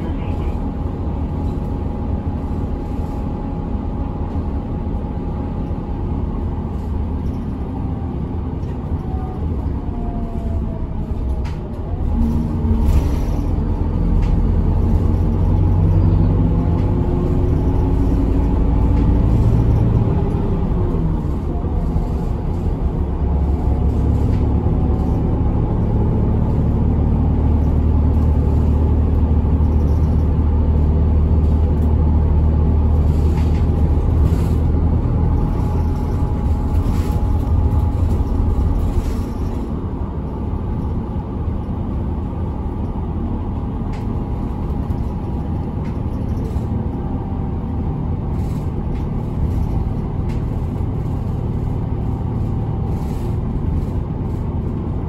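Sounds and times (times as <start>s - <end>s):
bus engine running: 0.0s - 55.0s
road rumble: 0.0s - 55.0s.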